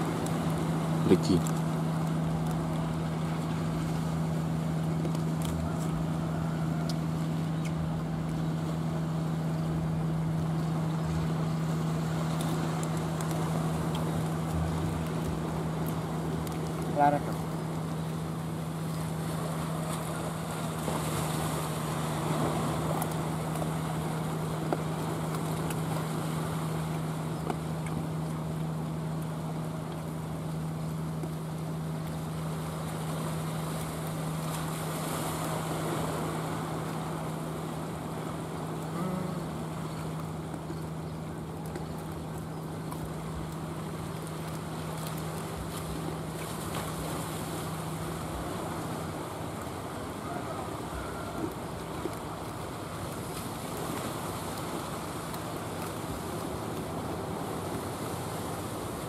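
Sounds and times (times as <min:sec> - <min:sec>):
boat engine droning: 0:00.0 - 0:59.0
sea waves: 0:00.0 - 0:59.0
wind: 0:00.0 - 0:59.0.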